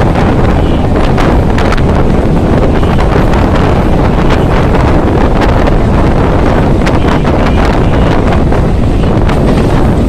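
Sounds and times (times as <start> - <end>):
train running noise: 0.0 - 10.0
wind buffeting microphone: 0.0 - 10.0.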